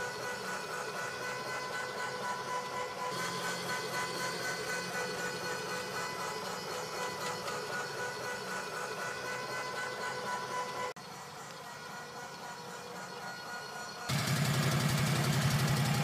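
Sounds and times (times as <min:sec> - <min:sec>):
motor humming with whine: 0:00.0 - 0:16.0.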